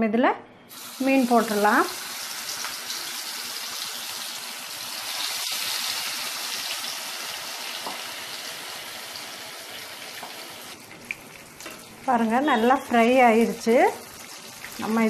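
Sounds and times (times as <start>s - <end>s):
fish deep-frying in oil: 0.7s - 15.0s.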